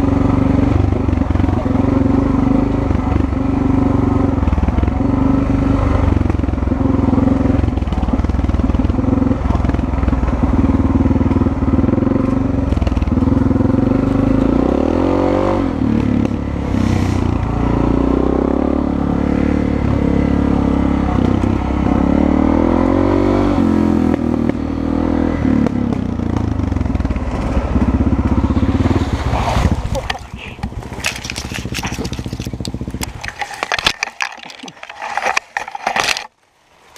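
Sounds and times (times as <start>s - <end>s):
dirt bike engine revving: 0.0s - 33.7s.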